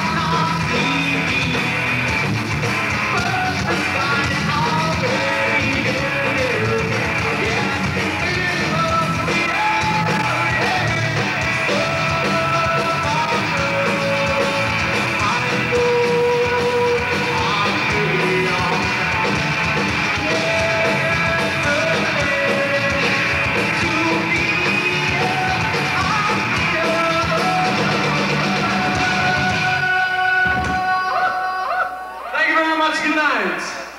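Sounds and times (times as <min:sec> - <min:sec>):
person singing into a microphone: 0:00.0 - 0:02.0, 0:03.1 - 0:19.3, 0:20.0 - 0:32.0
rock band playing: 0:00.0 - 0:31.5.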